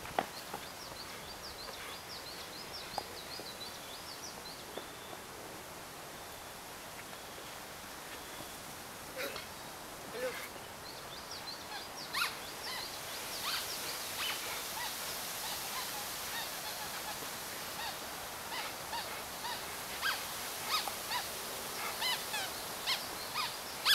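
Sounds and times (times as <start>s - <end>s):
steady hiss: 0.0s - 23.9s.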